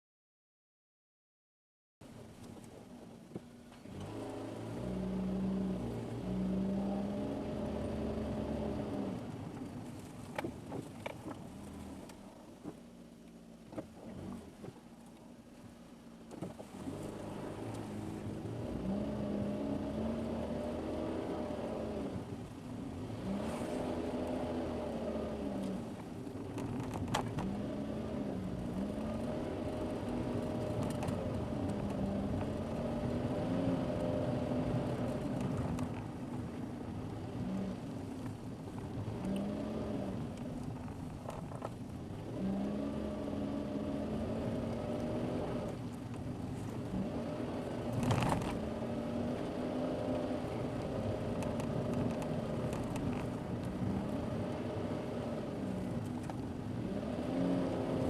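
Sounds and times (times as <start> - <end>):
road noise: 2.0 - 58.0
car engine revving: 3.7 - 9.7, 16.4 - 58.0.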